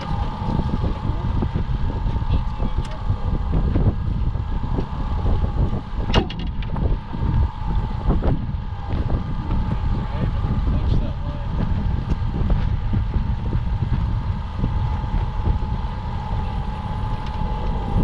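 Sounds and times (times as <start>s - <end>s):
outboard motor running: 0.0s - 18.0s
wind buffeting microphone: 0.0s - 18.0s.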